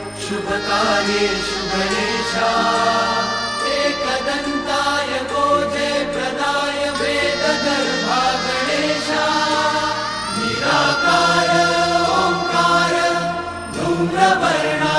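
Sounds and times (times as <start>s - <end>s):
low drone: 0.0s - 14.9s
person chanting over music: 0.0s - 14.9s.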